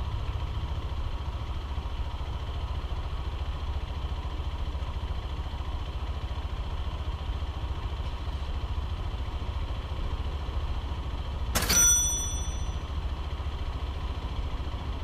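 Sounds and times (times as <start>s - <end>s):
motorcycle engine idling: 0.1s - 15.0s.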